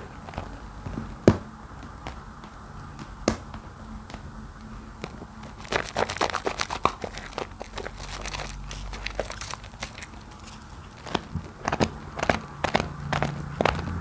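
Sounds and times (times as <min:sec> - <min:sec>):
soap foam crackling and popping: 0:00.0 - 0:14.0.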